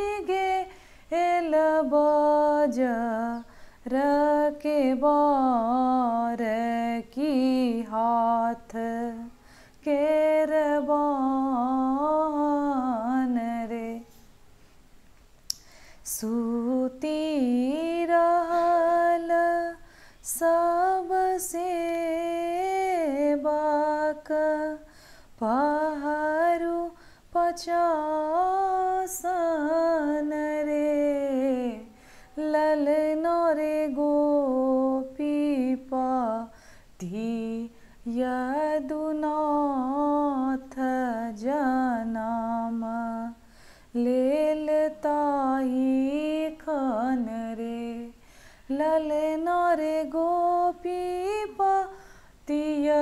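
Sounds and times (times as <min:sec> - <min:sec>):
woman singing unaccompanied: 0:00.0 - 0:14.3, 0:15.5 - 0:53.0.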